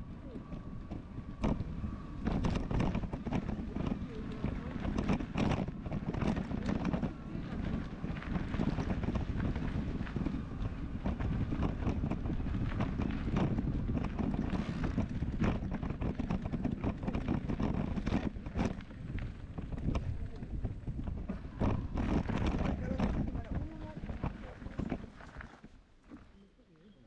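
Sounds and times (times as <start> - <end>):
steady low rumble: 0.0 - 25.4
wind buffeting microphone: 0.0 - 25.5
small clicks and rattles: 0.1 - 26.4.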